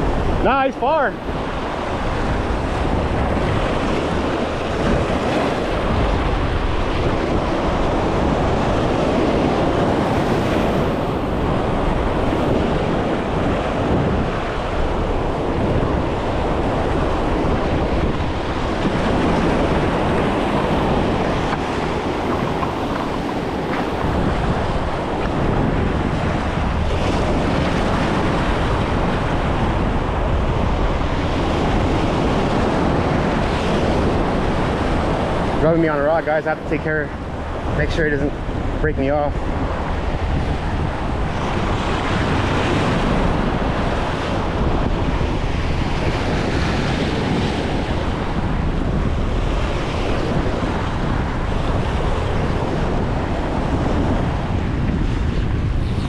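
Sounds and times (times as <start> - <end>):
surf washing against rocks: 0.0 - 56.0
wind on microphone: 0.0 - 56.0.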